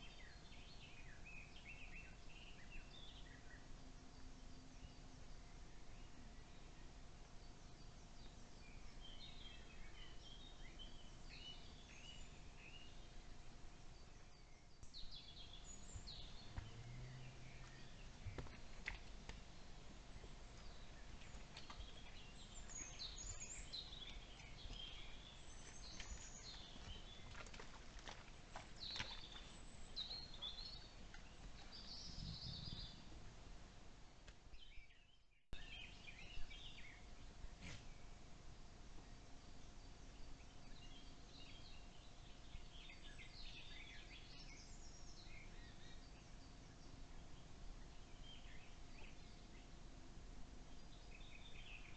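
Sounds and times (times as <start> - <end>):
small birds chirping: 0.0 - 33.2, 39.0 - 50.0, 50.6 - 51.9
low background hiss: 0.0 - 51.9.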